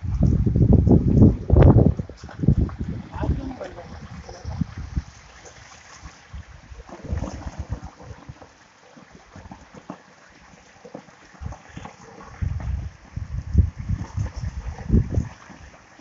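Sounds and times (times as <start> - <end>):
wind buffeting microphone: 0.0 - 8.5, 11.4 - 16.0.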